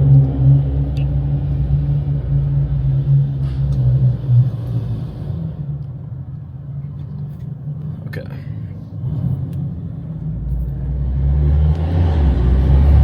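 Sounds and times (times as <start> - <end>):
car engine low drone: 0.0 - 13.0.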